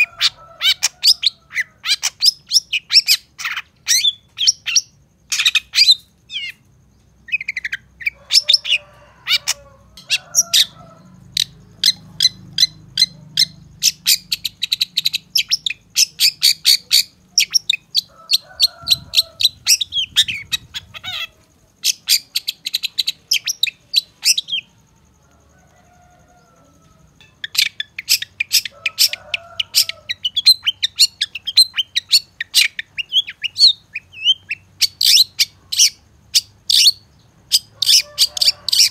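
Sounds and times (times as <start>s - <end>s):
shrike chattering song: 0.0s - 25.1s, 27.2s - 38.9s.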